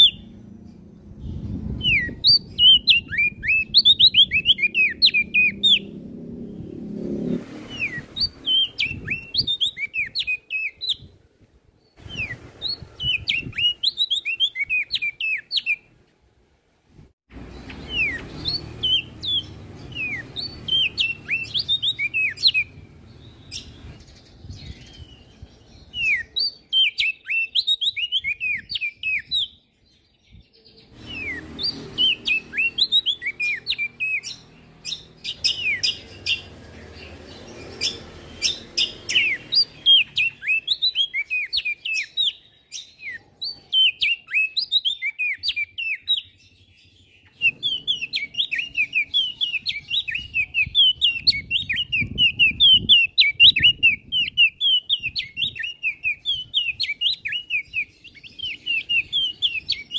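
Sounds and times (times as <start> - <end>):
songbird chirping: 0.0 - 16.2, 17.3 - 59.9.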